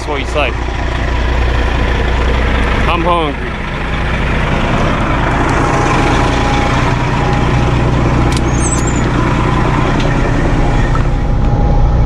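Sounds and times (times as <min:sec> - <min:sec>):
heavy vehicle engine pulling away: 0:00.0 - 0:12.0
steady whine: 0:00.0 - 0:12.0.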